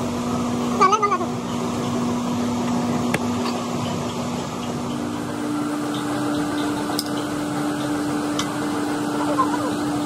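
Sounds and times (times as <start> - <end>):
machine hum with droning tone: 0.0 - 10.0.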